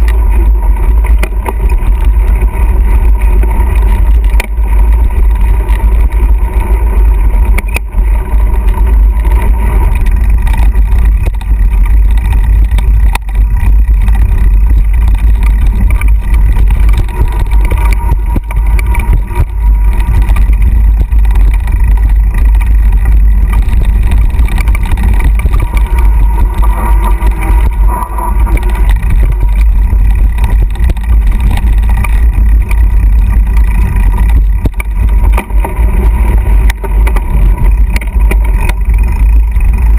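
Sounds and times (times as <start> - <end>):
bike knocking over bumps: 0.0 - 39.9
mountain bike rattling downhill: 0.0 - 39.9
wind rumble on microphone: 0.0 - 39.9.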